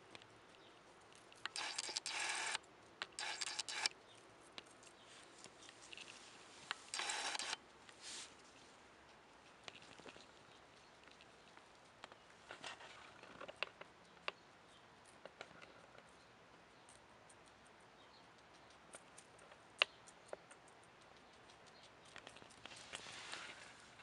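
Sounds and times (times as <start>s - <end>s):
guinea pig munching vegetables: 0.0s - 12.4s, 13.0s - 24.0s.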